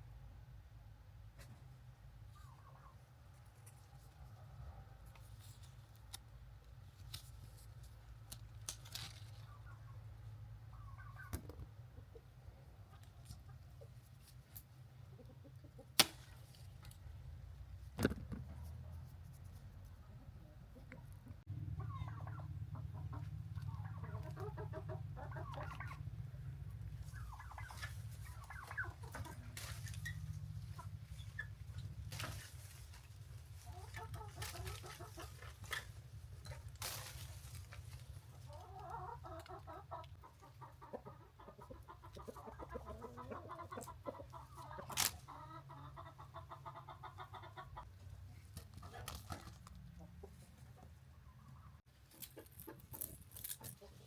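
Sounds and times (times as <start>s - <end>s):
chickens clucking: 1.3s - 5.0s, 9.2s - 14.0s, 14.7s - 16.0s, 20.0s - 54.0s.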